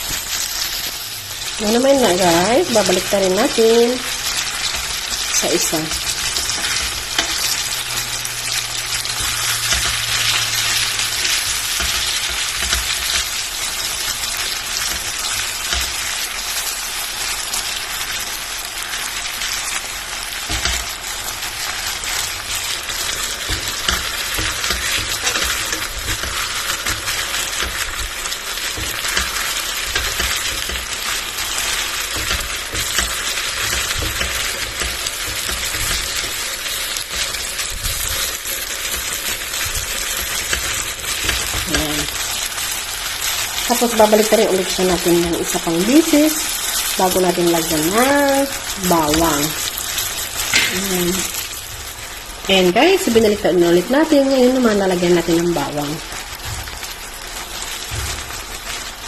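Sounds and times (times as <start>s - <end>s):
meat sizzling in a pan: 0.0s - 59.0s.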